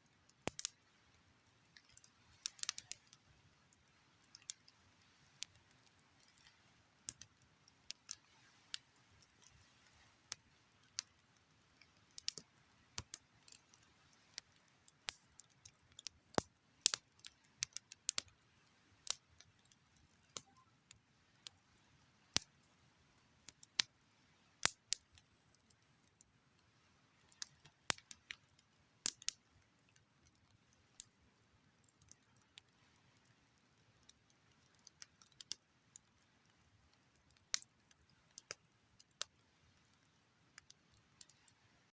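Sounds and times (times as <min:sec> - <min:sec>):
campfire crackling and popping: 0:00.3 - 0:41.6.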